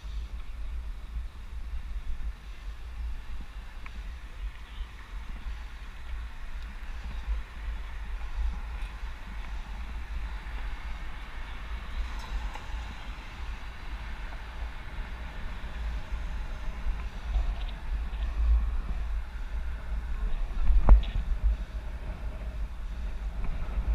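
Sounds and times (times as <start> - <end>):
road and tyre noise: 0.0 - 23.9
wind buffeting microphone: 0.0 - 23.9.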